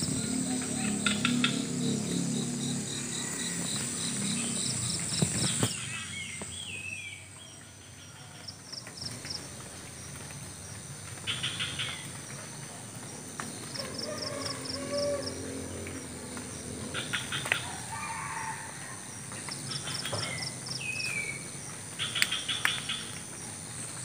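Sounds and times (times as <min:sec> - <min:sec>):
crickets and insects droning: 0:00.0 - 0:24.0.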